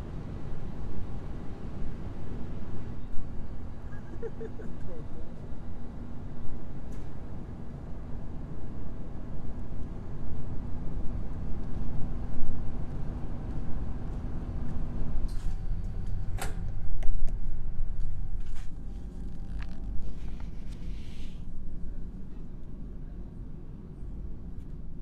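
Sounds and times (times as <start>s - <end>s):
machinery hum: 0.0s - 25.0s.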